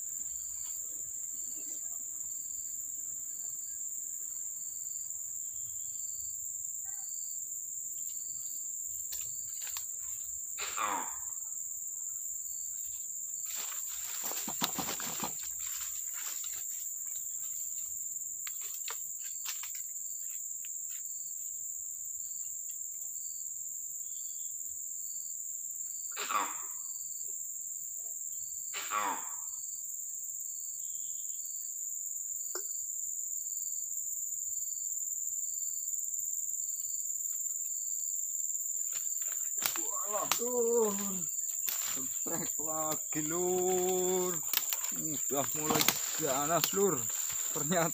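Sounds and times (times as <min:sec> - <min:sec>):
high-pitched insect drone: 0:00.0 - 0:22.5, 0:24.0 - 0:47.9
lower insect chirping: 0:00.0 - 0:47.9.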